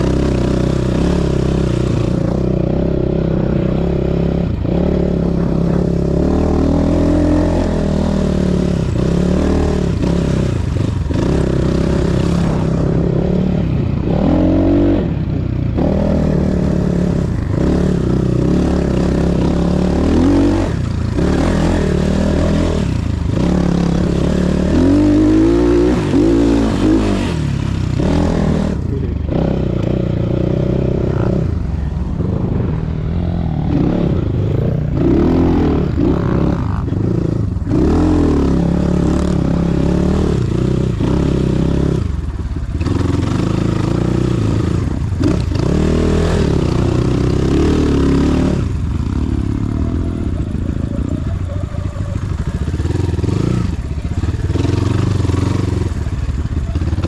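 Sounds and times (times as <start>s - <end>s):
vehicle engine revving: 0.0s - 57.0s.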